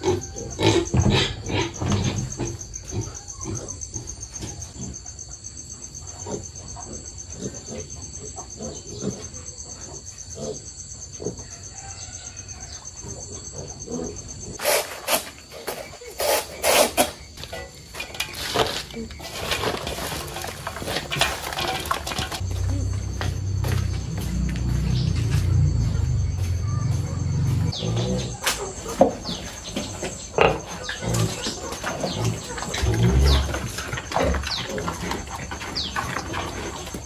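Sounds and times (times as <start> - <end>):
insects trilling: 0.0 - 37.0
piglet rooting in dirt: 0.0 - 37.0.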